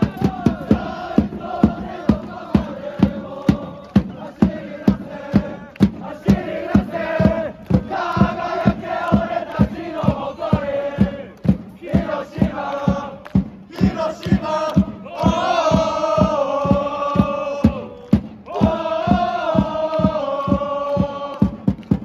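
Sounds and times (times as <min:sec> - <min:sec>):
crowd singing a chant: 0:00.0 - 0:22.0
steady low beat: 0:00.0 - 0:22.0.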